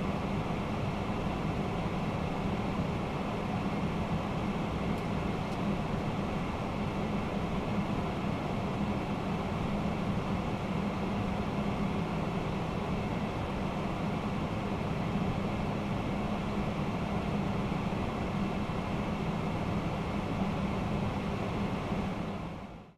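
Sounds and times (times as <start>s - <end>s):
constant low hum: 0.0s - 22.9s.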